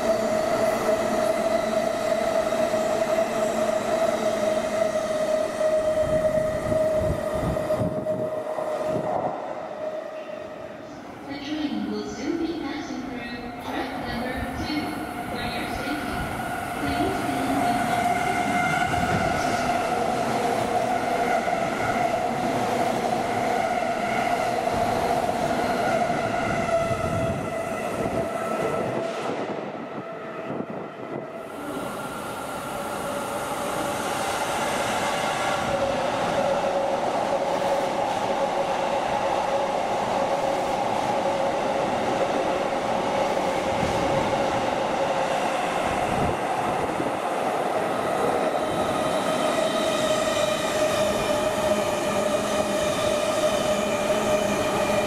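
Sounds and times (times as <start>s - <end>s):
electric train whine: 0.0s - 55.0s
train rolling rail noise: 0.0s - 55.0s.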